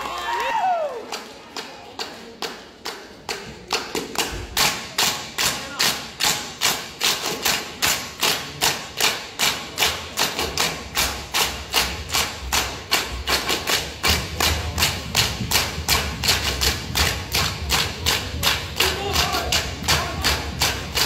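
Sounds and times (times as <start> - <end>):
people clapping in unison: 0.0 - 21.0.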